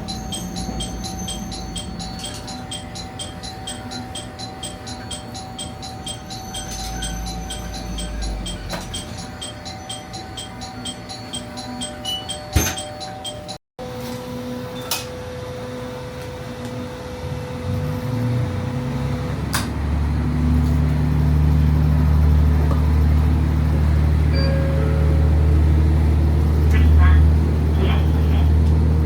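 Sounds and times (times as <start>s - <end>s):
diesel railcar engine droning: 0.0s - 29.0s.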